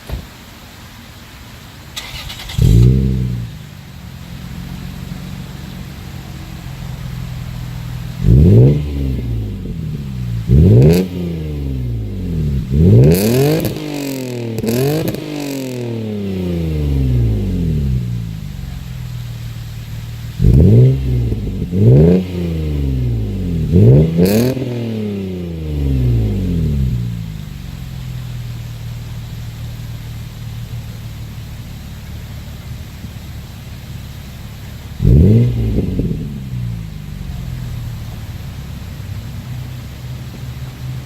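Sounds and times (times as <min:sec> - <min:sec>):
car engine idling: 0:00.0 - 0:41.0
car engine starting: 0:00.0 - 0:41.0
car engine revving: 0:02.0 - 0:41.0.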